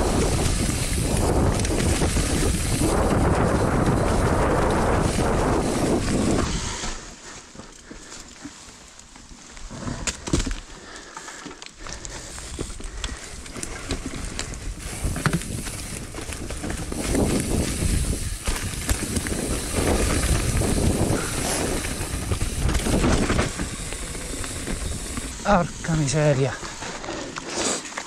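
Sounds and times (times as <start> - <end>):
bike rattling over bumps: 0.0 - 28.0
bike tyres rolling over leaves: 0.0 - 28.0.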